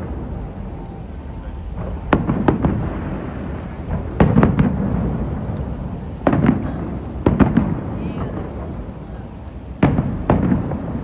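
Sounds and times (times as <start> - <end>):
fireworks booming: 0.0 - 11.0
rumbling echoing explosions: 0.0 - 11.0.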